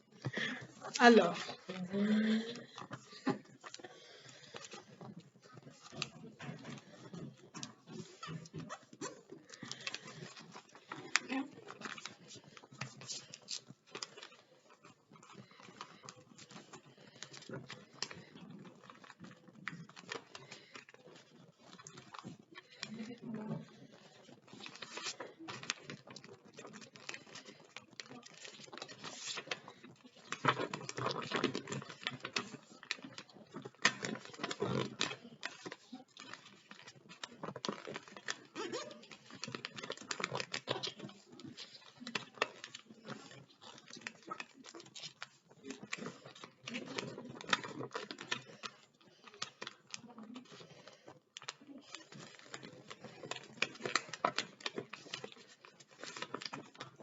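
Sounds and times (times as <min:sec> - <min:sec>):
paper rustling and crinkling: 0:00.0 - 0:57.0.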